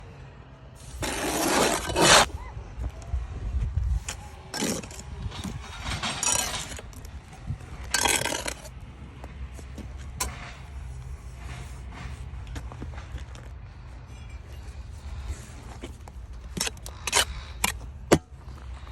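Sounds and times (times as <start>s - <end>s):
bricks clattering and scraping: 0.8s - 2.4s, 4.0s - 18.9s.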